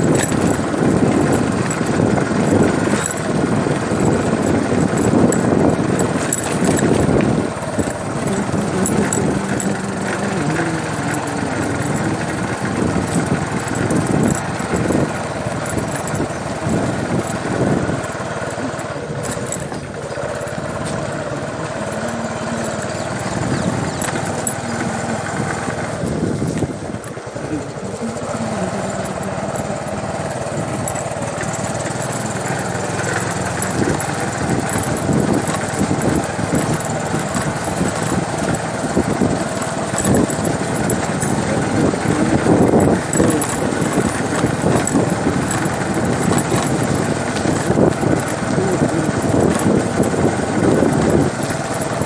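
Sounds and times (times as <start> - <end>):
vehicle engine running: 0.0 - 52.0.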